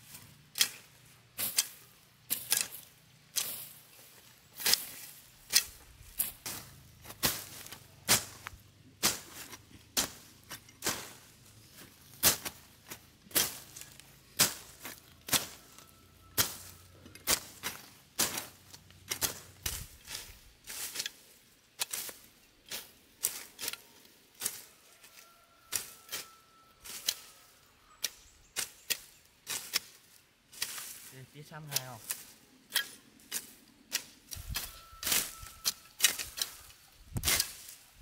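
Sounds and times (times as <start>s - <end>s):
machete slicing through grass: 0.5s - 4.0s, 4.6s - 15.6s, 16.4s - 23.8s, 28.0s - 31.1s, 31.7s - 37.9s.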